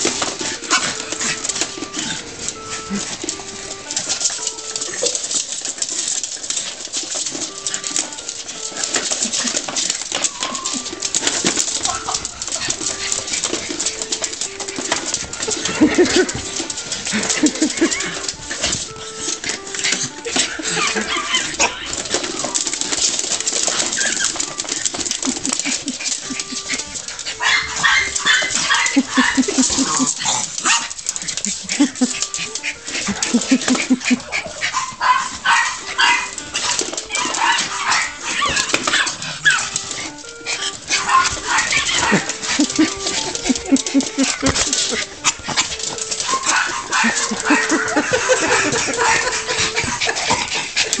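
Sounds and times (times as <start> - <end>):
robot vacuum clatter and rustle: 0.0 - 51.0
small dogs yapping: 0.0 - 51.0.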